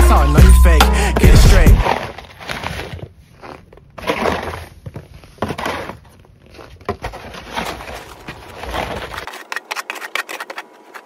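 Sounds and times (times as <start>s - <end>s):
snow shovel scraping on wooden deck: 1.8s - 11.0s.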